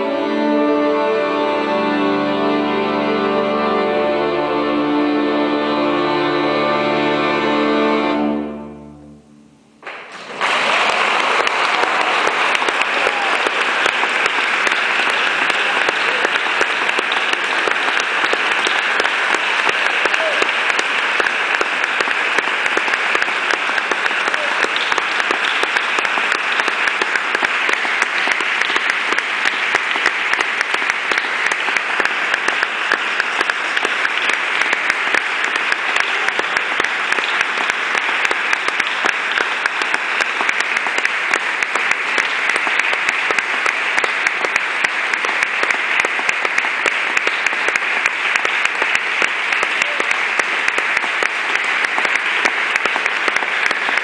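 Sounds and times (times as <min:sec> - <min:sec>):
audience applauding: 0:09.8 - 0:54.0.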